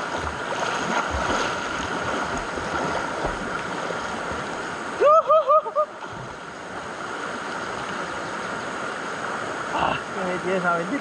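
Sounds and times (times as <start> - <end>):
water splashing around swimmers: 0.0 - 8.8
fast river current rushing: 0.0 - 11.0.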